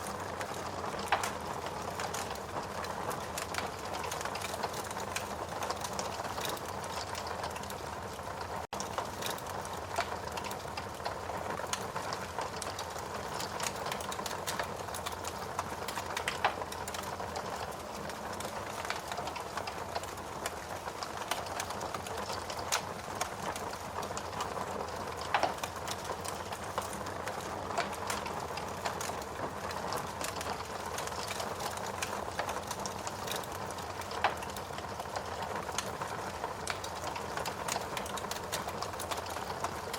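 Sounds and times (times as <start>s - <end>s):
logs burning in fireplace: 0.0s - 39.9s.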